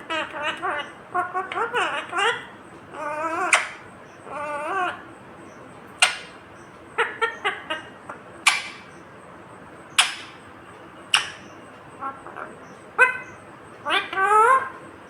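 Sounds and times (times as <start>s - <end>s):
parakeet squawks: 0.0s - 5.1s, 6.0s - 9.0s, 9.9s - 10.5s, 11.1s - 14.8s
parakeet warbling call: 0.0s - 5.2s, 6.0s - 9.0s, 9.9s - 10.5s, 11.1s - 14.9s.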